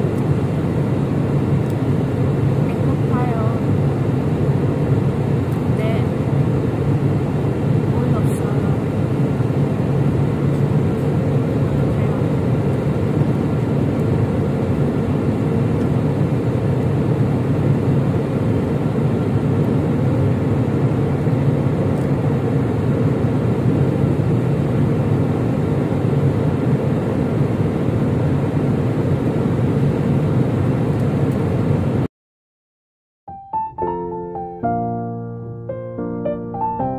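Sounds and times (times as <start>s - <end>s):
airliner cabin engine rush: 0.0s - 32.1s.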